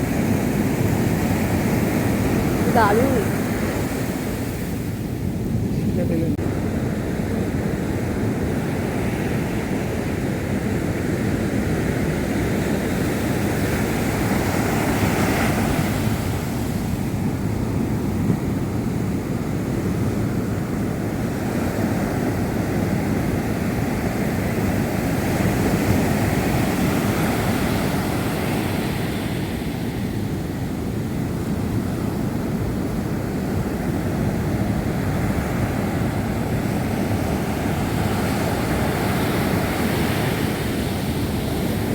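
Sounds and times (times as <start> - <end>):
sea waves washing in: 0.0 - 41.9.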